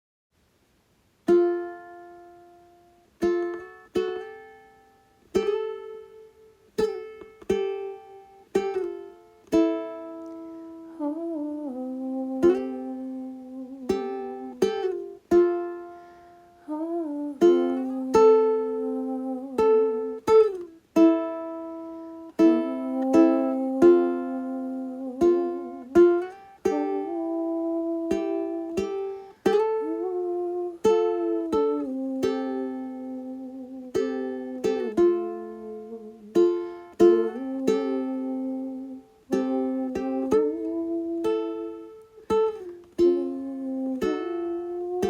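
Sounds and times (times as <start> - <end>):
plucked string instrument music: 1.2 - 45.0.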